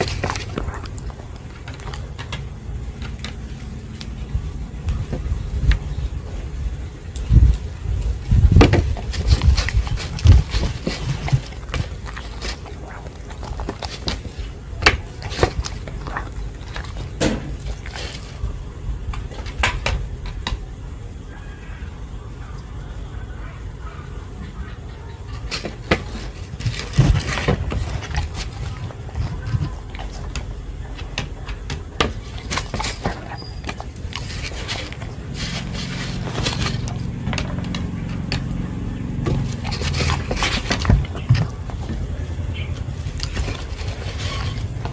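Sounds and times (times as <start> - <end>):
dog chewing food: 0.0 - 20.4, 24.4 - 44.9
low steady hum: 0.0 - 44.9.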